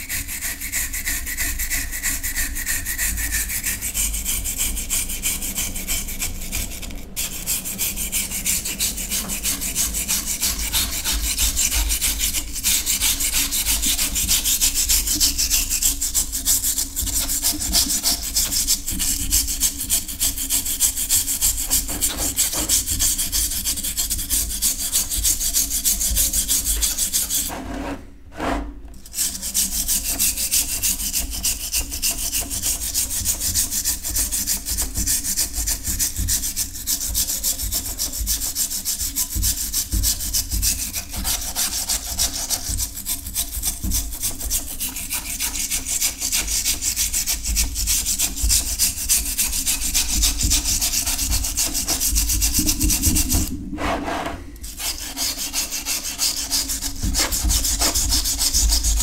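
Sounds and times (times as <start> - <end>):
brush scrubbing iron in liquid: 0.0 - 59.0.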